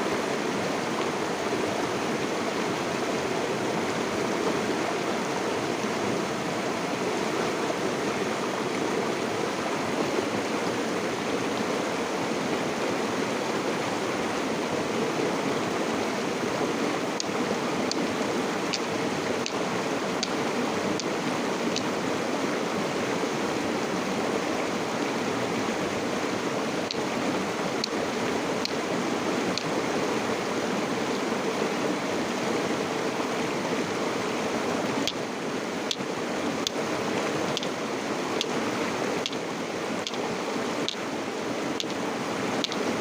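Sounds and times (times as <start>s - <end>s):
river water flowing: 0.0s - 43.0s.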